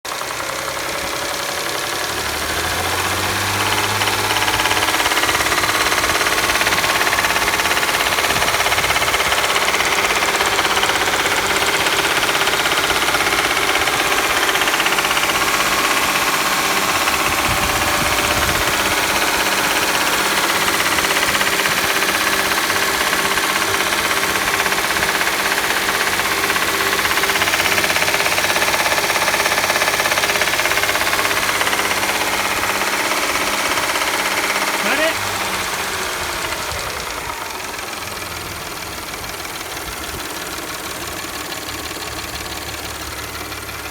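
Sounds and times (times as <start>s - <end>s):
engine knocking and rattling: 0.0s - 43.9s.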